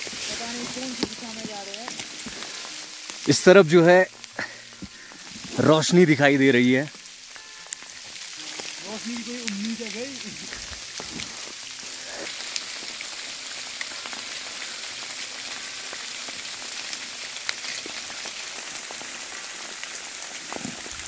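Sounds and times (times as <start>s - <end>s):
rain falling on leaves: 0.0s - 21.0s
sharp raindrop ticks: 0.0s - 21.0s.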